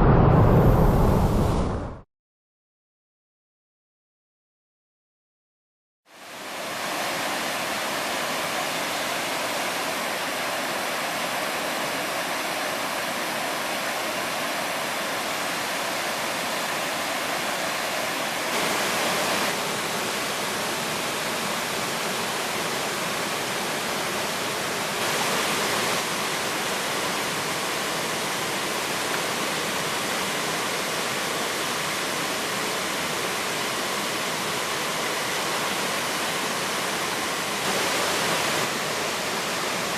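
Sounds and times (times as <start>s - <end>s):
waterfall rushing: 6.2s - 39.9s.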